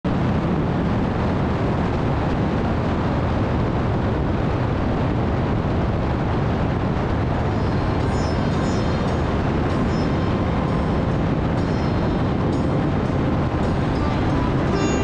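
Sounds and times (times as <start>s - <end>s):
wind over microphone: 0.0s - 15.0s.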